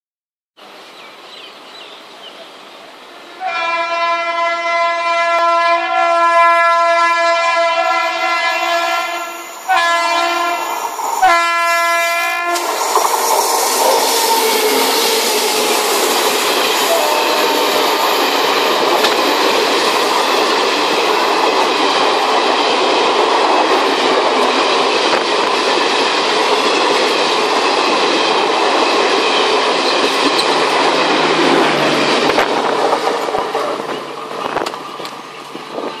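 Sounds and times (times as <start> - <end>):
train coaches passing at speed: 0.6 - 36.0.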